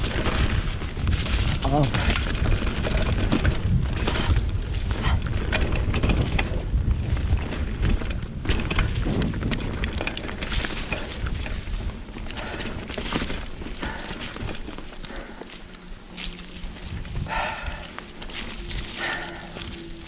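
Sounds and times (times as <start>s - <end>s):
tyres crunching over dry leaves: 0.0s - 5.4s, 8.6s - 20.0s
bike rattling over bumps: 0.0s - 20.0s
wind buffeting microphone: 0.0s - 20.0s.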